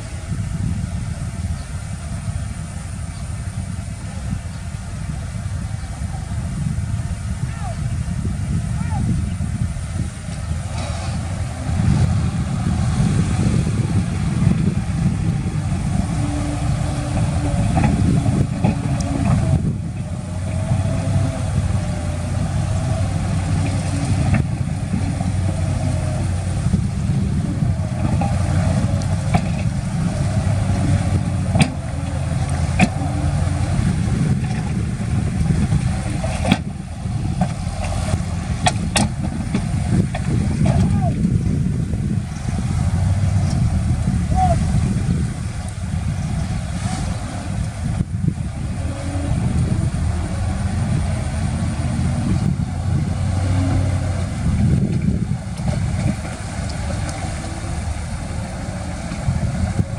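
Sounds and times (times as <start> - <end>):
heavy diesel machinery running: 0.0 - 59.9
wavering whine: 0.0 - 59.9.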